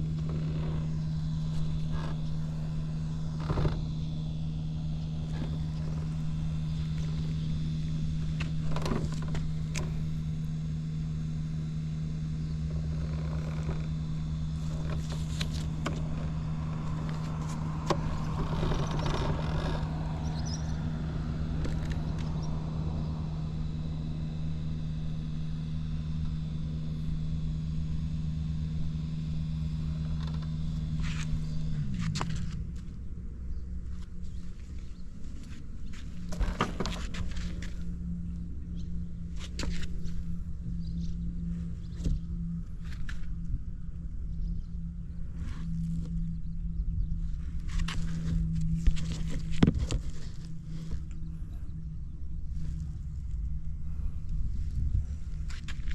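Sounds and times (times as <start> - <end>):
scooter engine idling: 0.0 - 55.9.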